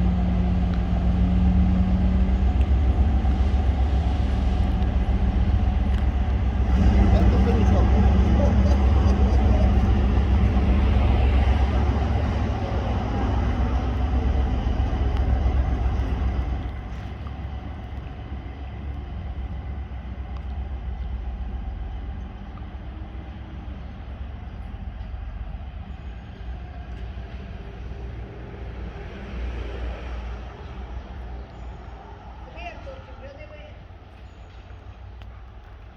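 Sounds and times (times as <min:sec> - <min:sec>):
diesel locomotive rumbling: 0:00.0 - 0:35.9.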